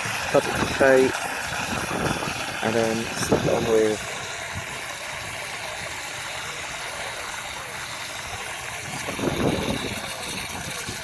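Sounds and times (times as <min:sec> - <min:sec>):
cistern refilling water rush: 0:00.0 - 0:11.0.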